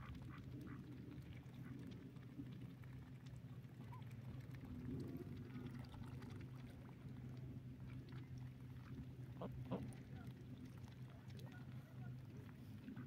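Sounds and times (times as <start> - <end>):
ducks splashing in water: 0.0 - 13.0
low steady hum: 0.0 - 13.0.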